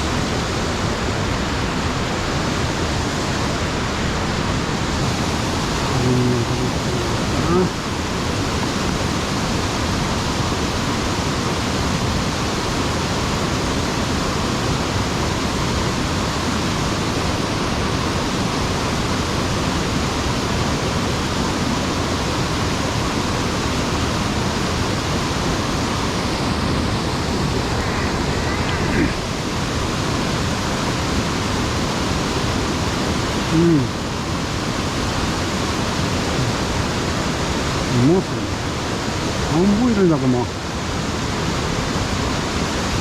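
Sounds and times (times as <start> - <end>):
stream water pouring over dam: 0.0 - 43.0.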